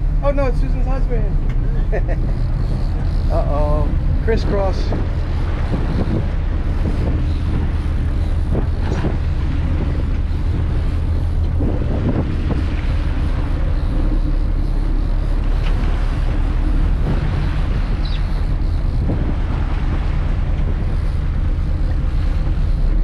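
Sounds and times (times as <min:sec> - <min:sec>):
boat engine droning: 0:00.0 - 0:23.0
wind buffeting microphone: 0:00.0 - 0:23.0.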